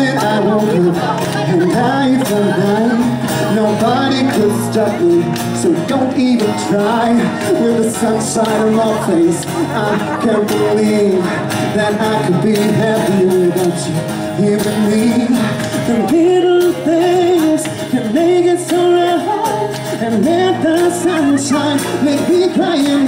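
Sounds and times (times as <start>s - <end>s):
instrumental backing music: 0.0s - 23.0s
man singing pop song: 0.0s - 23.0s.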